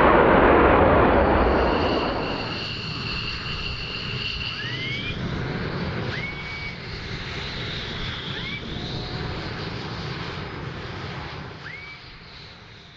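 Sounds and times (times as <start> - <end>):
distant jet engine rumble: 0.0 - 12.9
jet engine high whine: 0.0 - 12.9.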